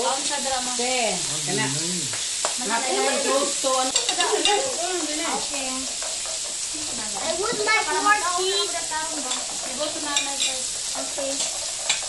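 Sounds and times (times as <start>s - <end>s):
meat sizzling on grill plate: 0.0s - 12.0s.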